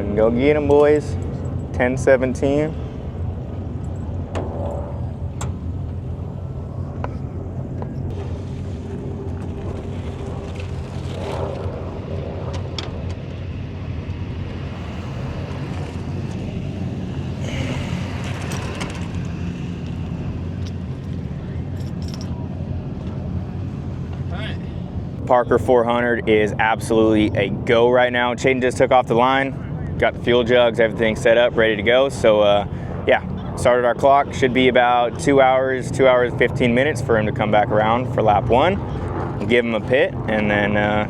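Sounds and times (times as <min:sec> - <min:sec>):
vehicle engines rumbling: 0:00.0 - 0:41.0.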